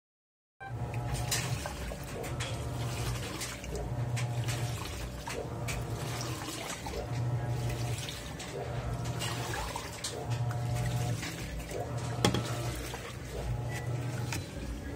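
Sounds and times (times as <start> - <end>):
washing machine motor humming: 0.6 - 14.9
water sloshing in drum: 0.7 - 14.9.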